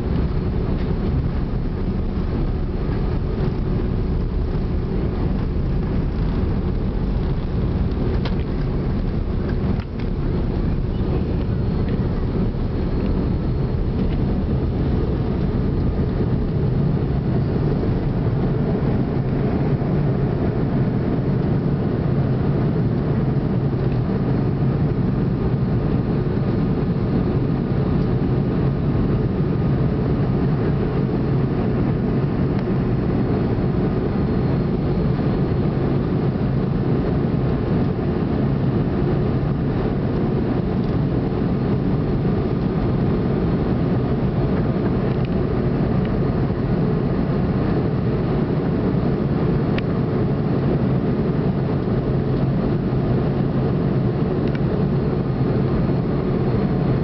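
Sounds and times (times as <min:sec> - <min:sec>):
jet engines roaring in cabin: 0:00.0 - 0:57.0.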